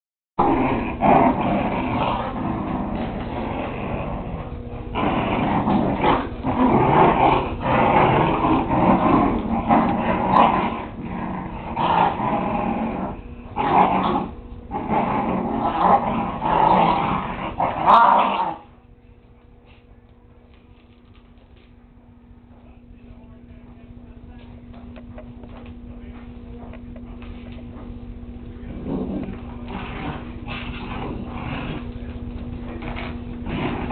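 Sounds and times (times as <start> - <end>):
puppies growling in play: 0.4 - 33.9.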